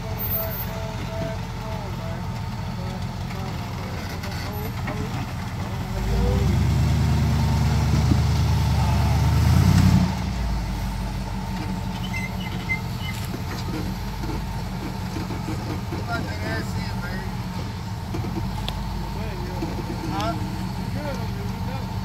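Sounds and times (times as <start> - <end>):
engine revving under load: 2.4 - 22.0.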